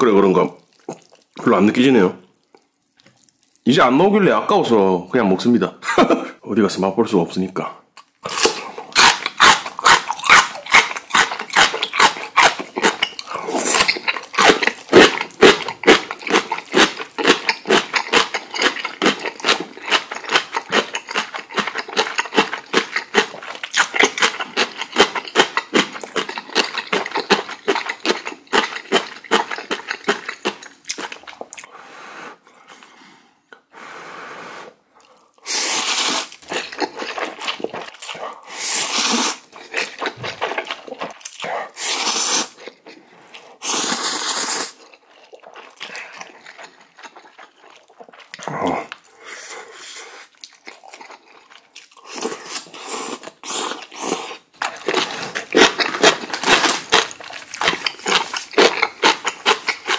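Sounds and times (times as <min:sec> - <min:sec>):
slurping and chewing noodles: 0:00.6 - 0:01.4, 0:08.0 - 0:33.0, 0:34.5 - 0:59.9.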